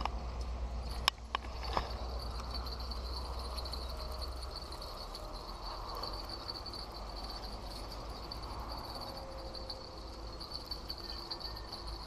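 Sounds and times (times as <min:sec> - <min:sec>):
low steady rumble: 0:00.0 - 0:12.0
insects chirring: 0:00.8 - 0:12.0.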